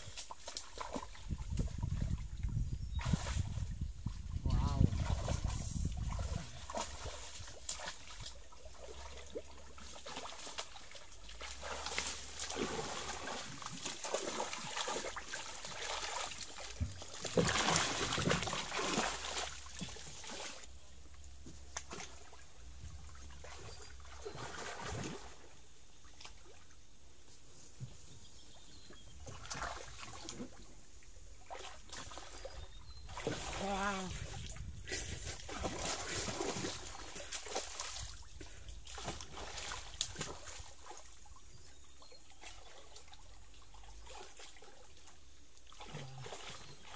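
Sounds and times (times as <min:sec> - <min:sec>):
water splashing and sloshing: 0:00.0 - 0:46.9.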